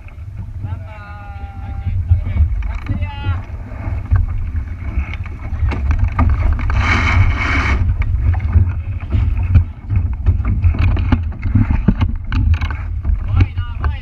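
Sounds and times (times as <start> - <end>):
wind buffeting microphone: 0.0 - 14.0
scattered knocks: 2.1 - 14.0.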